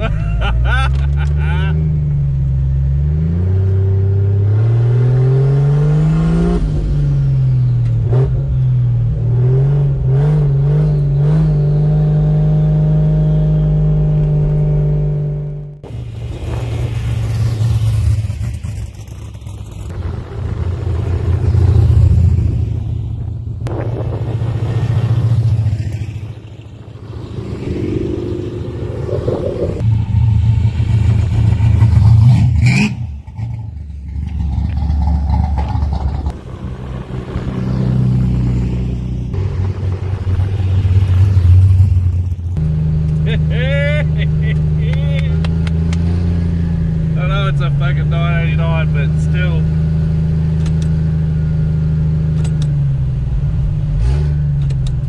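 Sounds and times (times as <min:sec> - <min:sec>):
car engine revving: 0:00.0 - 0:55.0
cars driving past: 0:09.4 - 0:55.0.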